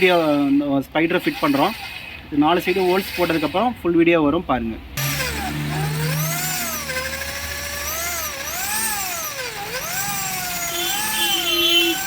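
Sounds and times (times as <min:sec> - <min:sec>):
electric drill whining under load: 0:00.0 - 0:03.7, 0:05.0 - 0:12.0.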